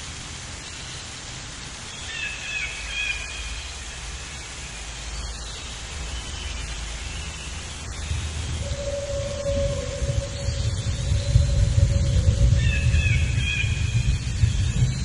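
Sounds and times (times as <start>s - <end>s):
steady outdoor noise: 0.0s - 15.0s.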